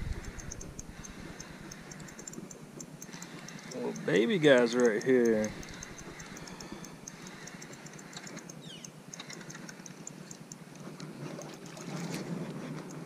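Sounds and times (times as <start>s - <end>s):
fishing reel ticking: 0.0s - 13.0s
light wind: 0.0s - 13.0s
water noise: 0.0s - 13.0s.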